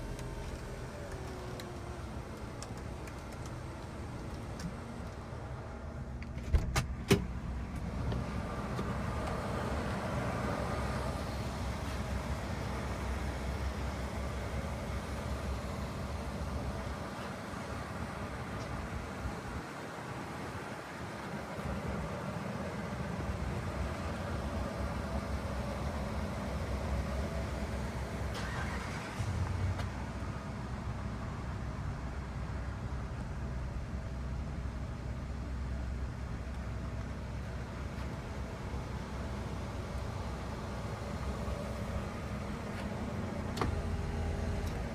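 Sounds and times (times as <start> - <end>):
car engine running: 0.0 - 29.9, 36.6 - 44.9
road and wind noise: 0.0 - 44.9.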